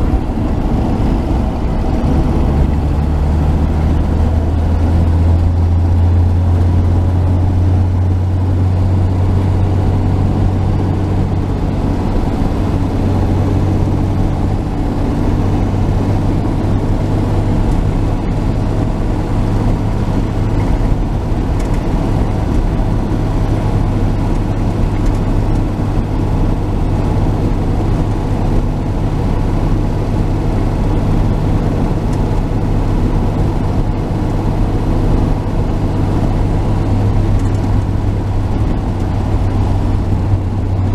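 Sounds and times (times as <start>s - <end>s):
road noise: 0.0s - 40.9s
truck engine droning: 0.0s - 40.9s.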